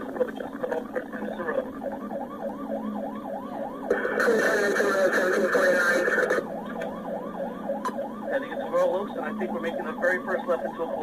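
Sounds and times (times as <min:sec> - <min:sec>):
police siren yelp: 0:00.0 - 0:11.0.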